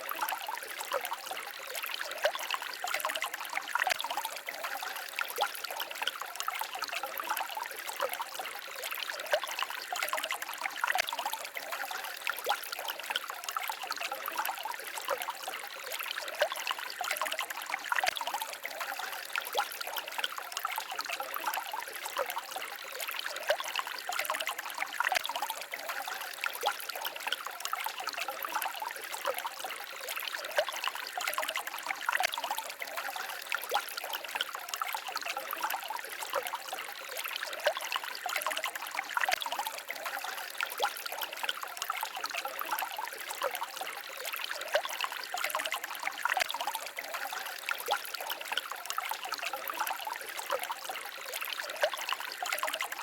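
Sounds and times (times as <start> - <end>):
stream trickling and babbling: 0.0 - 53.0.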